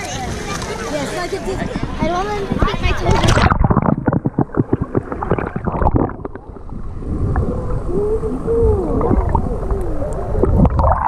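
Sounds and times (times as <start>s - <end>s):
underwater rumble of moving water: 0.2s - 11.0s.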